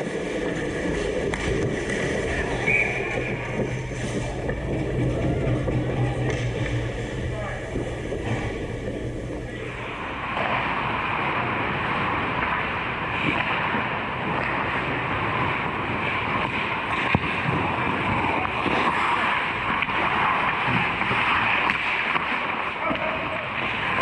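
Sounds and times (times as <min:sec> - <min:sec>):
ice hockey game hiss: 0:00.0 - 0:24.0.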